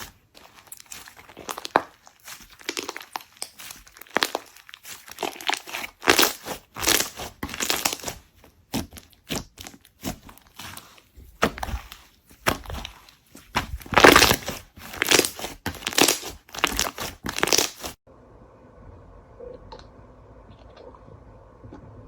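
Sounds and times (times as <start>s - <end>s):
slime crackling and popping: 0.0s - 18.0s.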